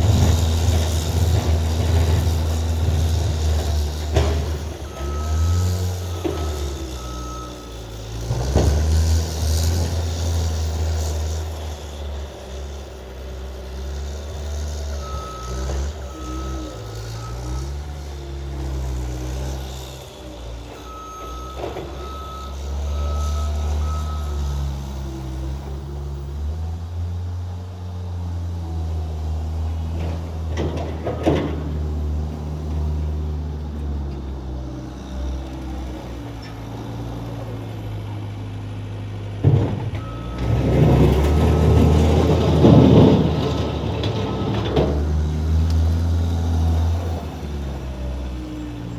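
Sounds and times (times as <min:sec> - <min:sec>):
skid steer engine running: 0:00.0 - 0:48.9.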